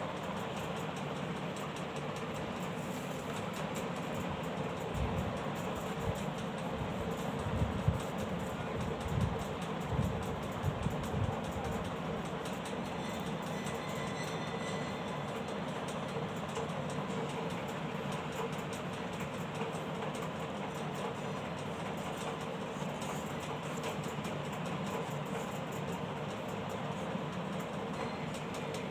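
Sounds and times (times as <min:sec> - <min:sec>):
steady background noise: 0:00.0 - 0:28.9.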